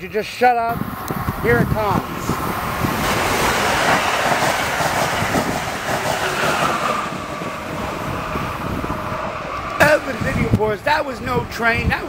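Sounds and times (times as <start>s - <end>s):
train whine dropping in pitch: 0.7s - 10.9s
train wheels rushing on rail: 0.7s - 12.0s.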